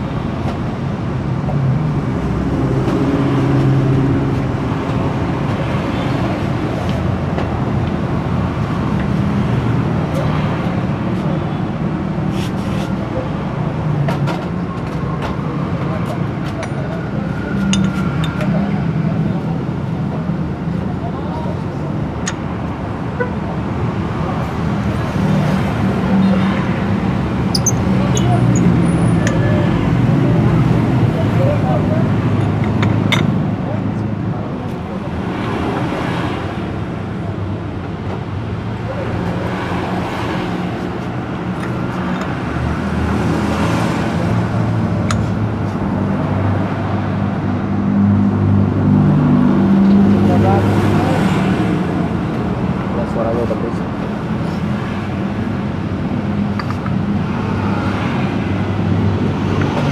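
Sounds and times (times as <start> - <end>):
low drone of engines and traffic: 0.0 - 59.9.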